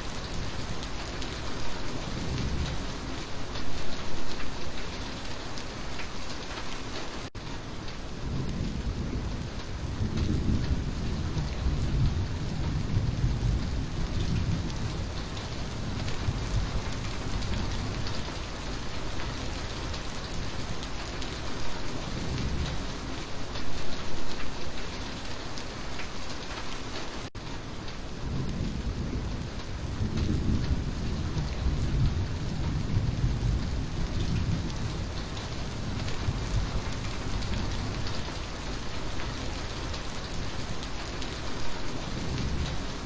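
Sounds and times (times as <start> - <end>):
rolling thunder rumble: 0.0 - 4.6, 8.1 - 23.3, 28.1 - 43.0
heavy rain falling: 0.0 - 43.0.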